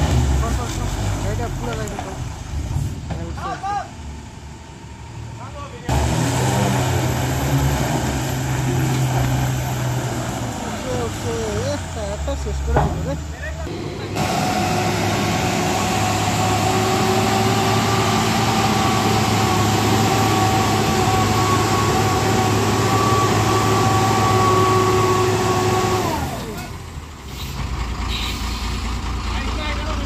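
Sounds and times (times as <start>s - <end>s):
diesel truck engine whining: 0.0s - 30.0s.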